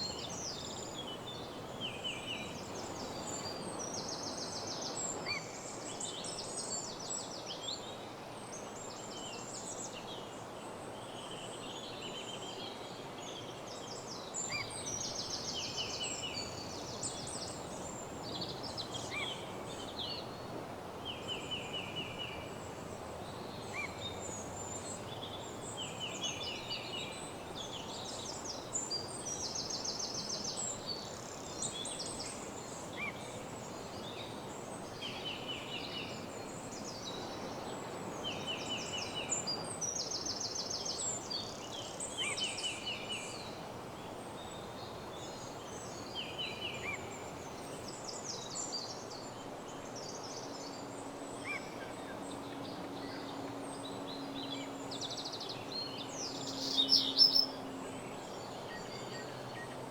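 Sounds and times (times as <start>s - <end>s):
songbirds trilling and chirping: 0.0s - 5.1s, 14.4s - 59.9s.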